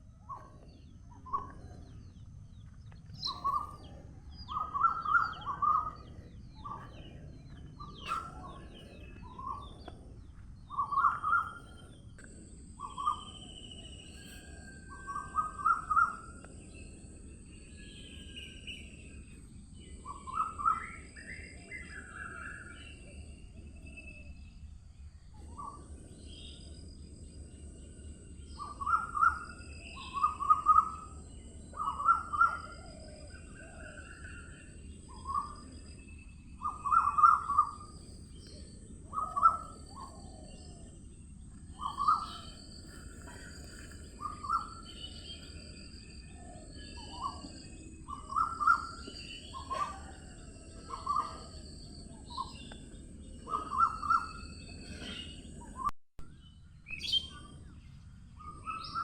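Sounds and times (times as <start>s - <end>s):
birds chirping: 0.3s - 59.0s.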